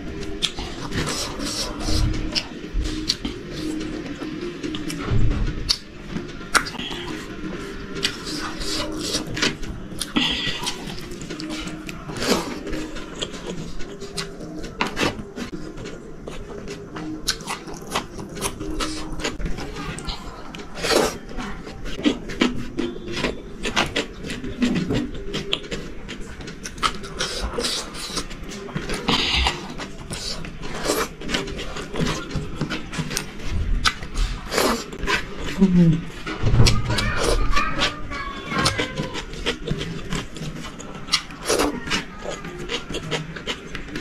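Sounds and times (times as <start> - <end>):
chewing rice: 0.0 - 5.0, 6.5 - 44.0.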